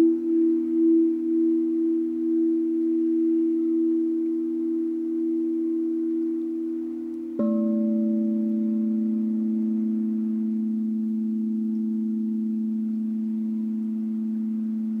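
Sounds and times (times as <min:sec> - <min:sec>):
tube wind chimes ringing: 0:00.0 - 0:15.0.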